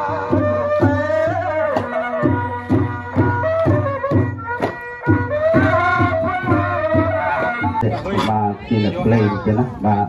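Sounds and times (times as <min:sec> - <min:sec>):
drum beats: 0:00.0 - 0:10.0
wind instrument melody: 0:00.0 - 0:10.0.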